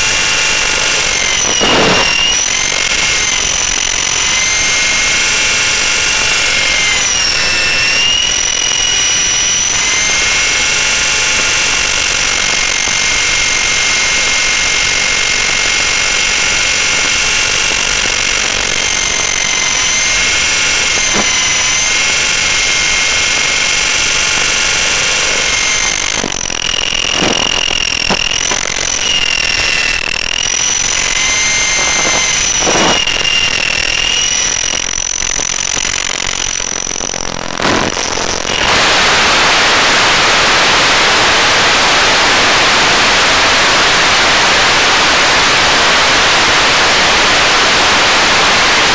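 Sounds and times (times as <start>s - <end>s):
helicopter motor whining: 0.0s - 39.8s.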